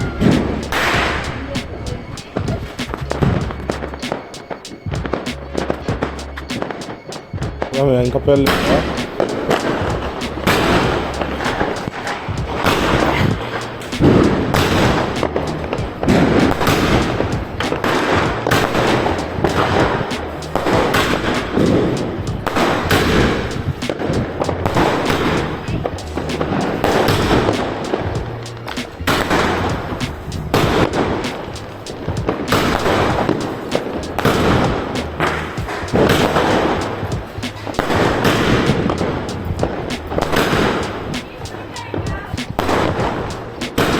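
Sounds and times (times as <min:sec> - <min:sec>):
background music: 0:00.0 - 0:43.9
firecrackers banging: 0:00.0 - 0:43.9.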